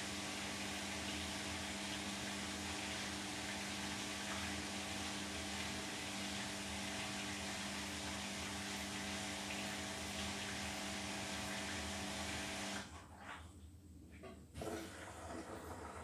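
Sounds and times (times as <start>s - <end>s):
drain pump humming: 0.0s - 12.9s.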